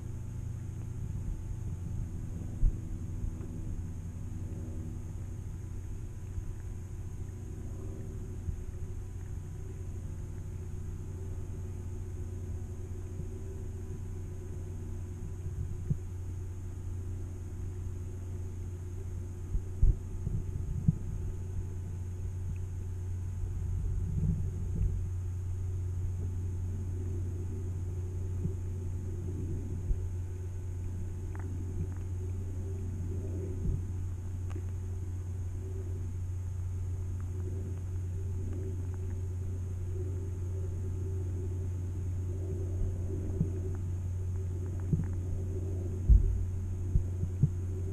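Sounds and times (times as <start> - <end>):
underwater rumble and hum: 0.0 - 47.9.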